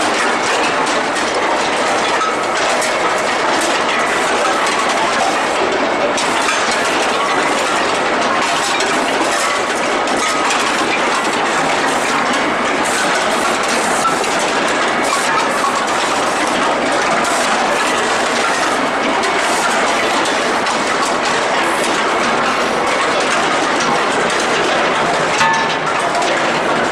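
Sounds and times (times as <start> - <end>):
machinery metallic clatter: 0.0 - 26.9.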